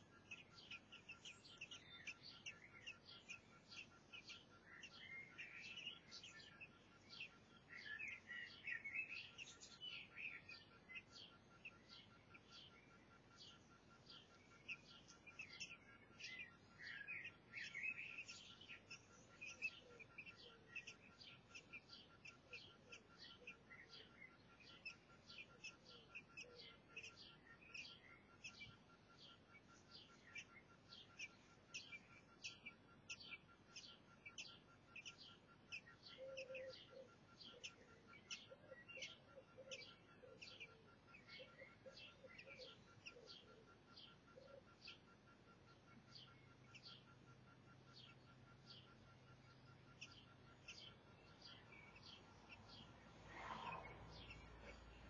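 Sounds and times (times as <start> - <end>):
bird warbling: 0.0 - 55.0
faint thin bird chirps: 0.0 - 55.0
soft low bird twittering: 0.0 - 55.0.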